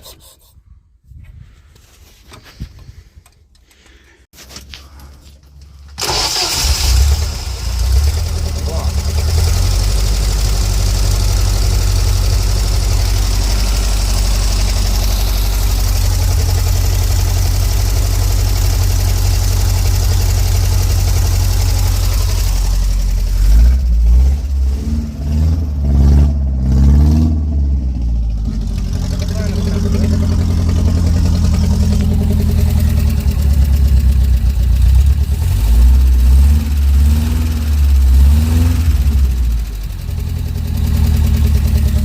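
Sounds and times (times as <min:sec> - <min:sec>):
van engine idling: 0:05.0 - 0:24.7, 0:27.6 - 0:42.0.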